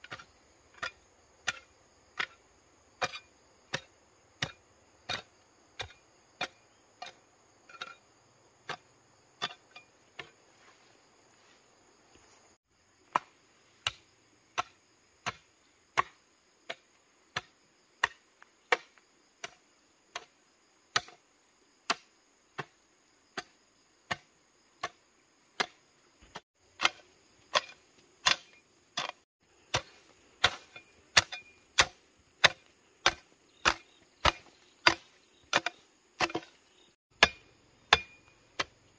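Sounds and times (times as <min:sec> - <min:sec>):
hoe chopping into stony soil: 0:00.0 - 0:02.4, 0:03.0 - 0:08.0, 0:08.6 - 0:10.4, 0:13.1 - 0:20.3, 0:20.9 - 0:21.2, 0:21.9 - 0:25.0, 0:25.6 - 0:38.9
insects droning: 0:00.0 - 0:38.9.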